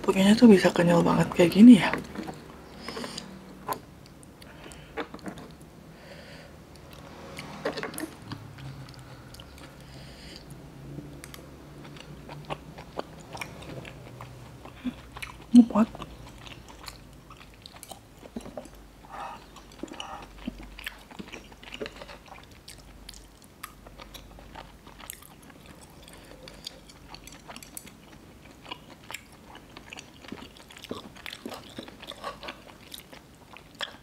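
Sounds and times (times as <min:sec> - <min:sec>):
person chewing noodles: 0:01.9 - 0:34.0.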